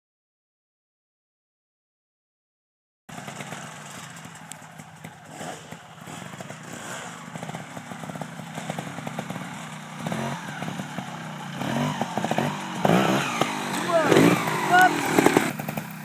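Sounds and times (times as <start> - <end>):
motorcycle engine running: 3.1 - 16.0.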